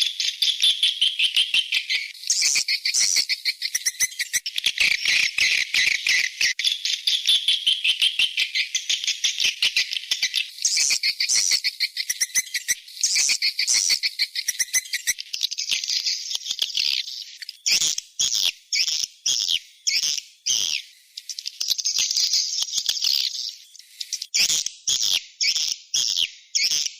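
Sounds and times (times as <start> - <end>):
high-pitched bird twittering chirps: 0.0 - 26.9.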